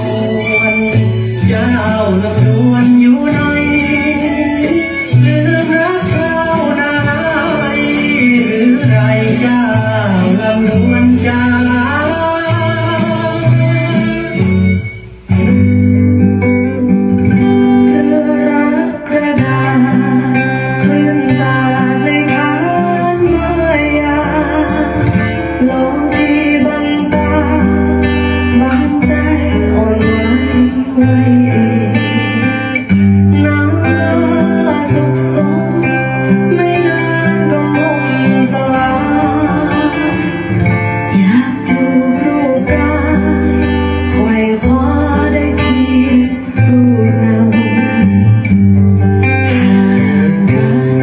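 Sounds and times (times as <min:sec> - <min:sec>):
guitar-led music with singing: 0:00.0 - 0:51.0.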